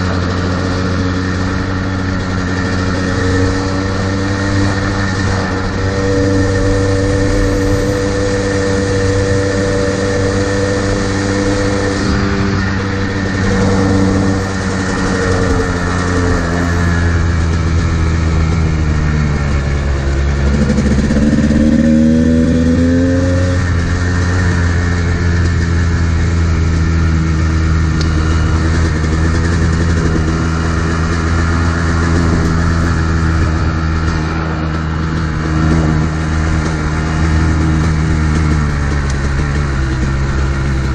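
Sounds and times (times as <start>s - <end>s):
dirt bike engine running: 0.0s - 40.9s
wind noise: 0.0s - 40.9s.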